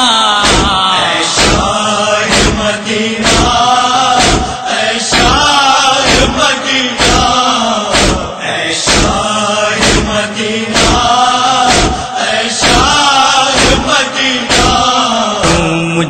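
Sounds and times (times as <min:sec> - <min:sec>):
man singing a lament: 0:00.0 - 0:16.0
sharp beat: 0:01.4 - 0:16.0.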